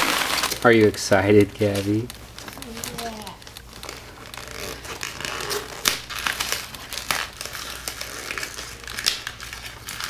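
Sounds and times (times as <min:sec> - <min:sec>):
wrapping paper crinkling: 0:00.0 - 0:10.0.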